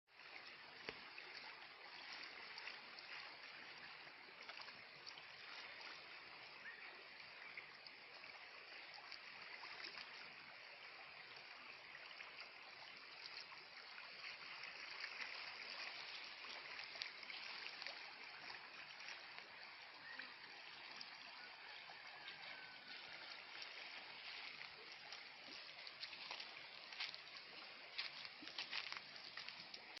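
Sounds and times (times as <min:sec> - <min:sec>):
small water splashes: 0:00.1 - 0:30.0
river water rushing: 0:00.2 - 0:30.0.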